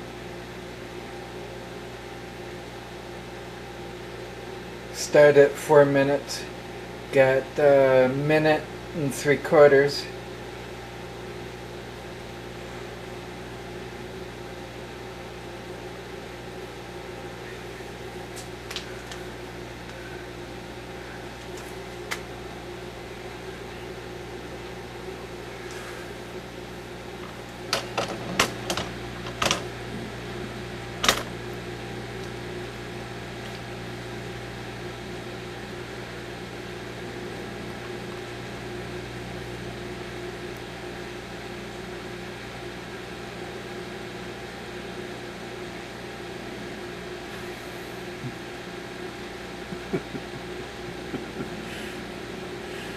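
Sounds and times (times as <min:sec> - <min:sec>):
microwave oven humming: 0:00.0 - 0:52.9.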